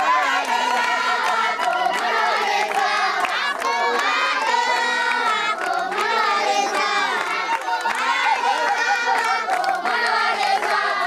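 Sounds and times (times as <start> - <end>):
children shouting and cheering: 0.0 - 11.0
hand claps: 0.0 - 11.0.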